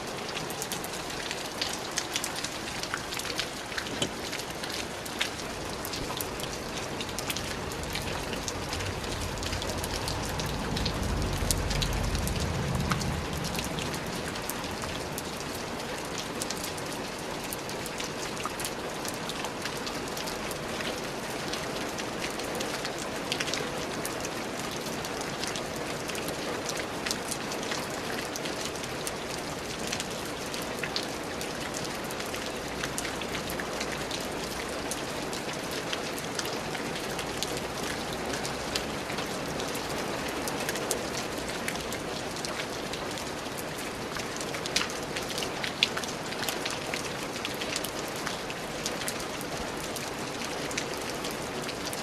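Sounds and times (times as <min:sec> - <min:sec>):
rain falling on a surface: 0:00.0 - 0:52.0.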